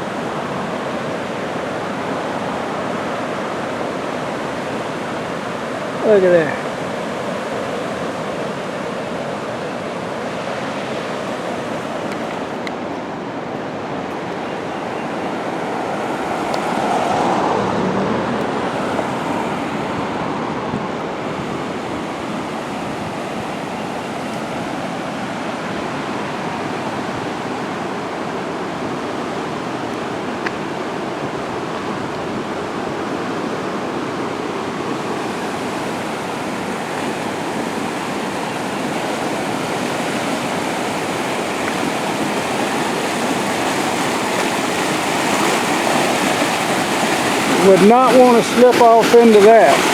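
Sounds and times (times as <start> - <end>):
floodwater rushing and churning: 0.0 - 49.9.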